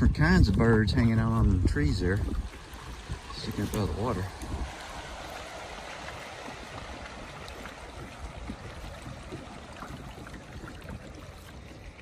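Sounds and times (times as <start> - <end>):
water lapping around a kayak: 0.0 - 12.0.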